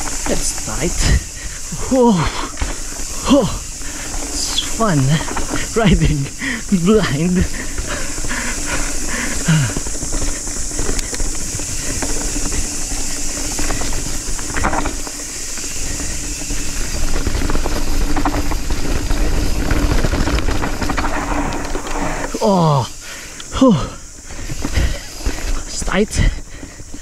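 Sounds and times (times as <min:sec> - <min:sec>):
wind rush: 0:00.0 - 0:23.0
bike frame rattling: 0:00.0 - 0:27.0
bike tyre rumble: 0:00.0 - 0:27.0.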